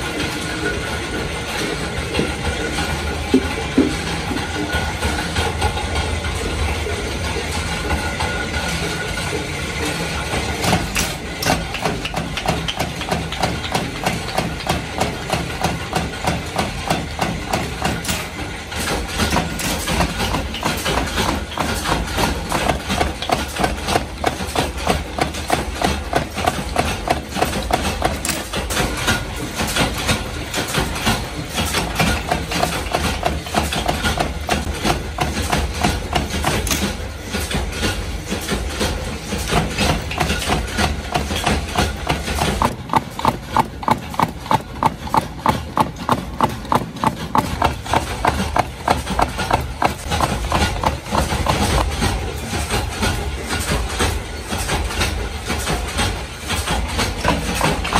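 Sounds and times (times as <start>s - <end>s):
motor and flywheel hum: 0.0s - 57.9s.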